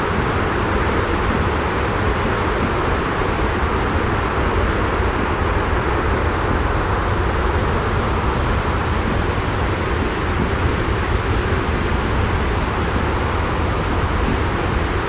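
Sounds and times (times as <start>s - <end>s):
white noise with low rumble: 0.0s - 15.0s.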